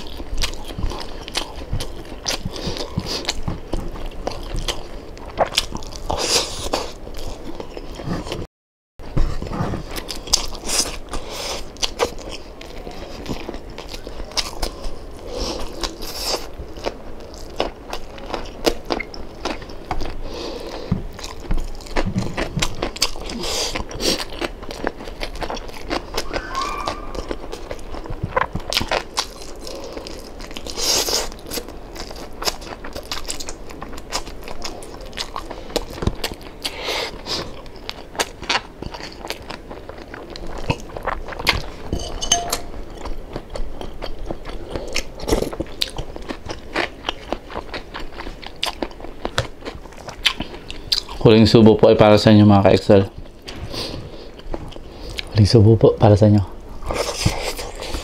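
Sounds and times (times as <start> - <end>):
person chewing crispy food: 0.0 - 8.4, 9.4 - 55.6, 56.5 - 58.0.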